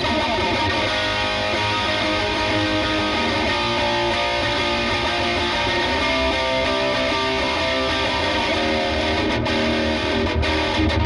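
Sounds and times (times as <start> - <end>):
distorted electric guitar riff: 0.0 - 11.0.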